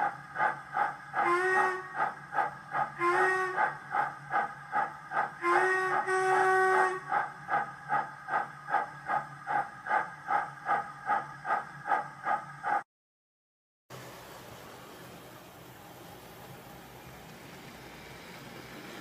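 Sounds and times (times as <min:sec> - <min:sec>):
steam locomotive exhaust chuffs: 0:00.0 - 0:12.8, 0:13.9 - 0:19.0.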